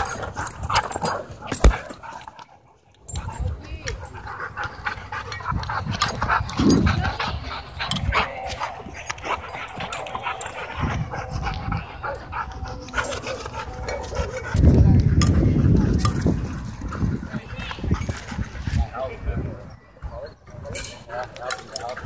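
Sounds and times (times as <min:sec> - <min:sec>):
dogs vocalising: 0:00.0 - 0:19.0.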